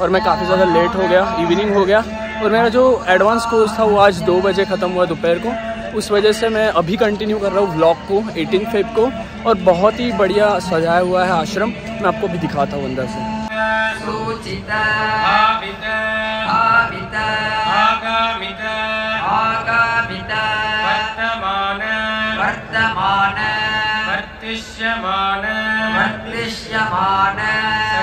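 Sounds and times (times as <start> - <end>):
steady low drone: 0.0 - 23.5
voices chanting: 0.0 - 28.0.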